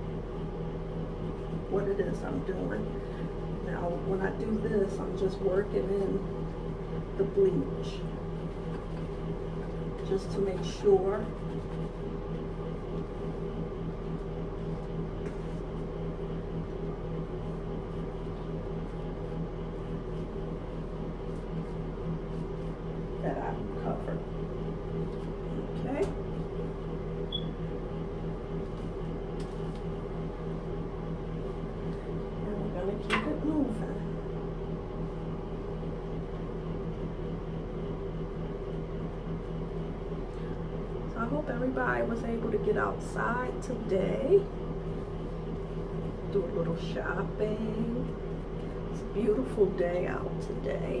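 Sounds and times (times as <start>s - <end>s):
steady mechanical hum: 0.0s - 51.0s.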